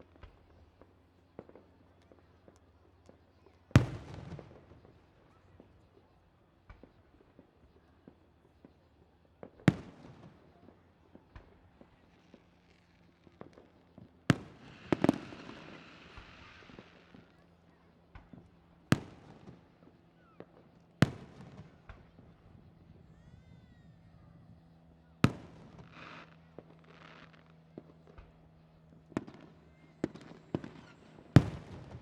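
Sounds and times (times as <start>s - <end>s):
fireworks bangs with rumbling echo: 0.2s - 23.3s, 24.5s - 32.0s.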